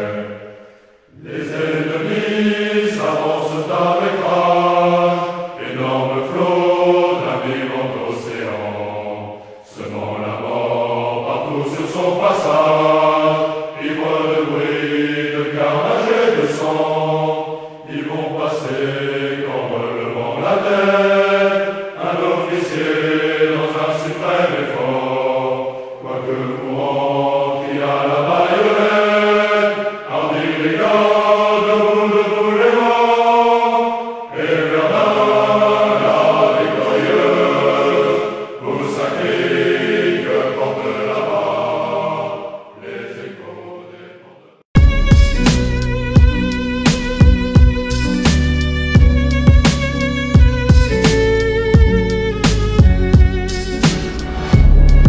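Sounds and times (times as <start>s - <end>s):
choir singing long held notes: 0.0s - 55.0s.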